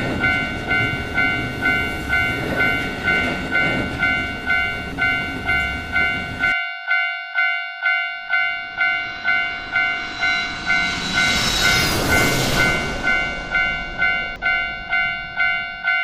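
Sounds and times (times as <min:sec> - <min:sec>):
passing train rushing: 0:00.0 - 0:06.6, 0:07.9 - 0:16.0
level crossing warning bell: 0:00.0 - 0:16.0.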